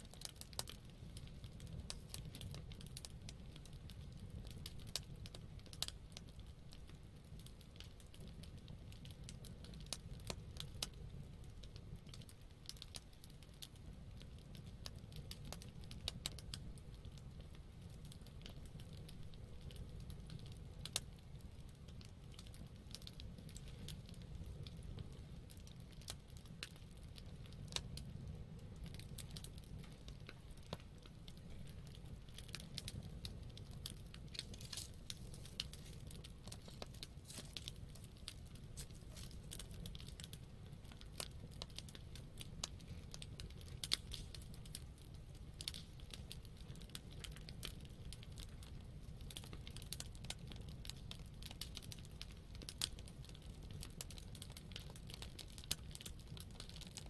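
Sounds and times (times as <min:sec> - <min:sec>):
burning wood crackling and popping: 0:00.0 - 0:57.0
low rumble of flames: 0:00.0 - 0:57.0.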